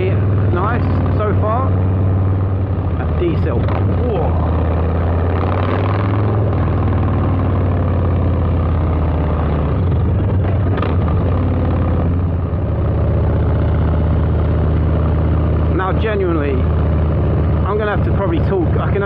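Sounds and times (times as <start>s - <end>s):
motorcycle engine running loud: 0.0s - 19.0s.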